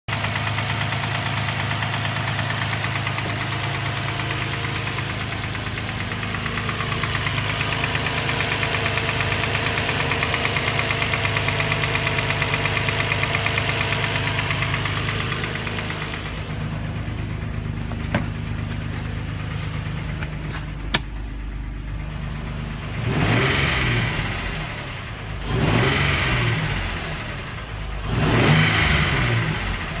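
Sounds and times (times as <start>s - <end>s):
car engine running and revving: 0.1s - 30.0s.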